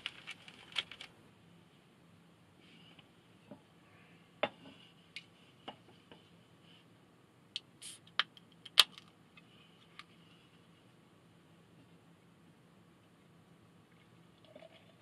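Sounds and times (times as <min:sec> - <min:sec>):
soft hiss: 0:00.0 - 0:14.5.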